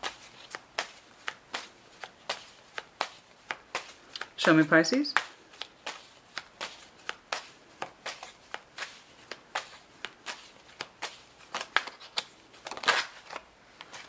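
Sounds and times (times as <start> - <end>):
cards being shuffled: 0.0 - 14.0.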